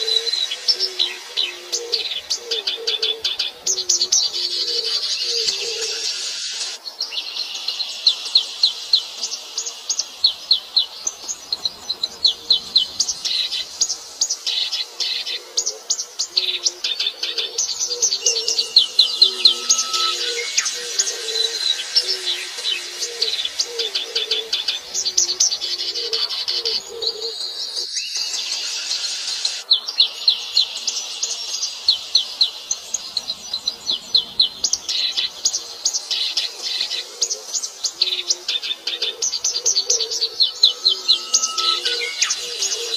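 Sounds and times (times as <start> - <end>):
high buzz of insects: 0.0 - 42.9
small birds chirping: 0.0 - 42.9.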